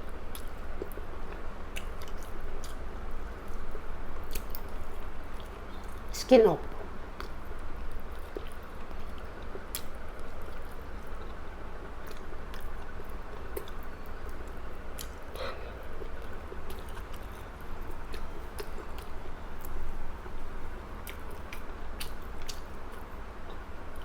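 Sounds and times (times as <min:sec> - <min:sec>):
person chewing food: 0:00.3 - 0:06.0, 0:07.2 - 0:24.0.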